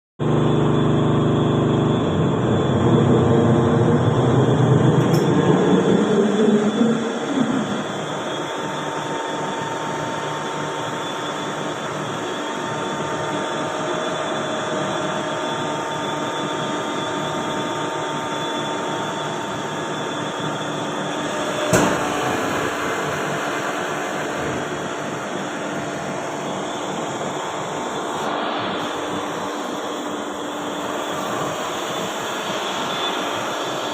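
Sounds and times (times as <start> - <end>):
low drone: 0.2 - 33.9.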